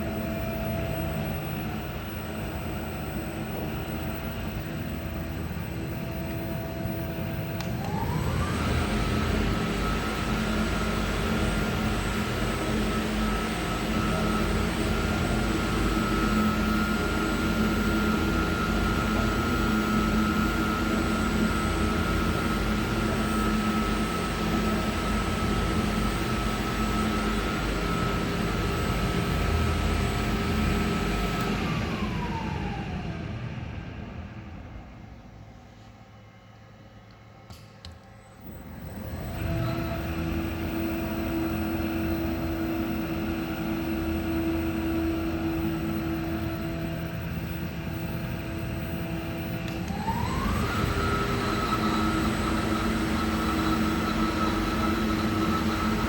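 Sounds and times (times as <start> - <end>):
paddle mixer motor whine: 0.0 - 35.1, 38.4 - 56.0.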